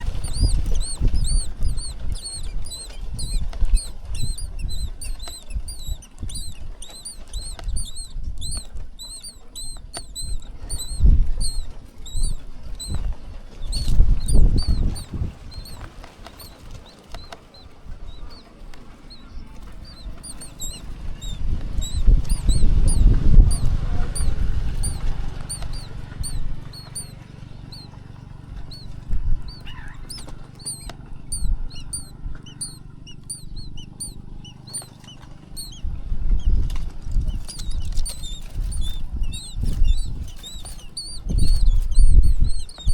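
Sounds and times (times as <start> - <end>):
low rumbling: 0.0 - 42.9
nestling birds cheeping: 0.0 - 42.9.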